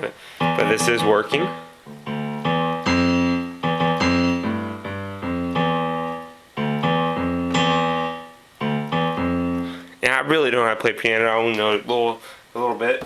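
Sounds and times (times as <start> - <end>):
digital piano chords: 0.0 - 10.7.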